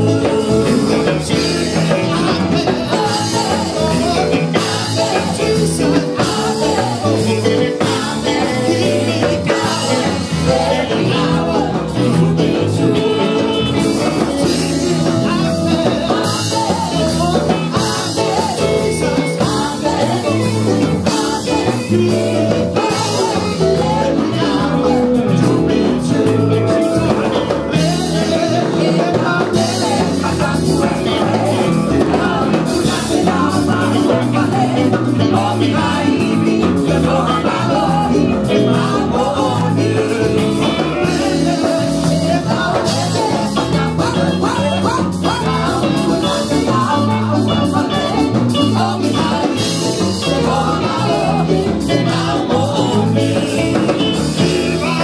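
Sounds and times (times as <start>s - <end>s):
congregation singing: 0.0s - 55.0s
worship band playing: 0.0s - 55.0s.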